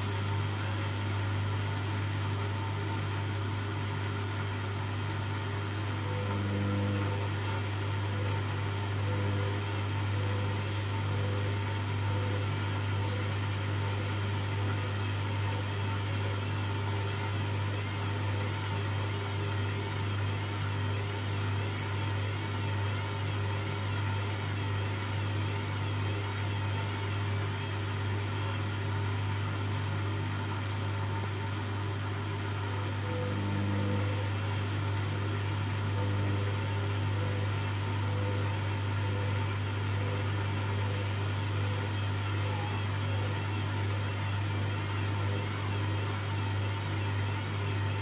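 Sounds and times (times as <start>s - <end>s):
washing machine motor hum: 0.0s - 48.0s.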